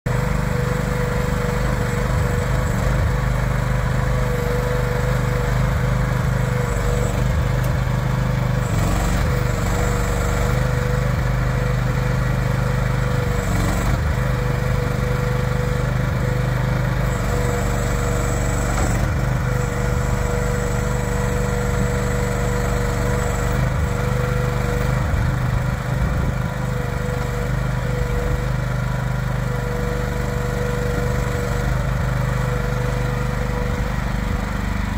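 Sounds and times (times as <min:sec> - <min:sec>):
constant hydraulic whine: 0:00.1 - 0:34.9
mini excavator engine running: 0:00.1 - 0:34.9.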